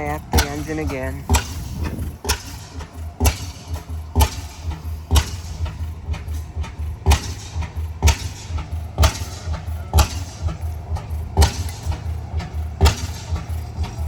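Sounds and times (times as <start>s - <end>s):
engine exhaust bangs: 0.0s - 14.0s
low engine throb: 0.0s - 14.0s.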